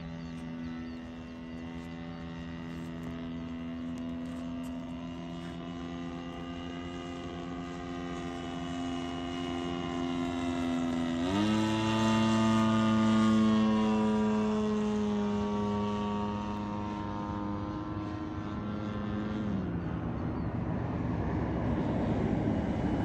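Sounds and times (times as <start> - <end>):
model plane engine droning: 0.0 - 23.0.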